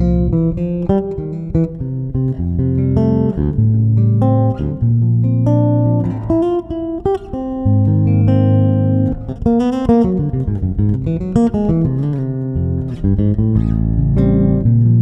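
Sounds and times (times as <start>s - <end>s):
electric bass played fingerstyle: 0.0s - 15.0s.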